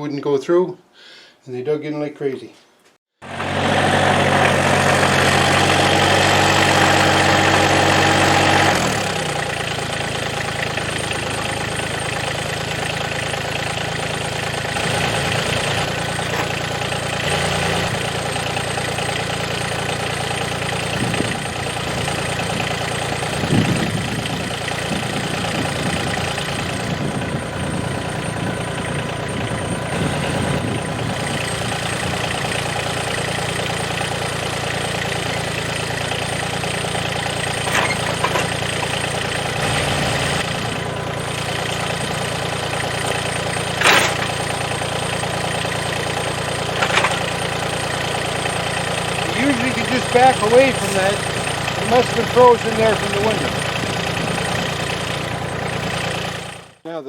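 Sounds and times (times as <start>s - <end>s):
tractor diesel engine running: 3.2s - 56.8s.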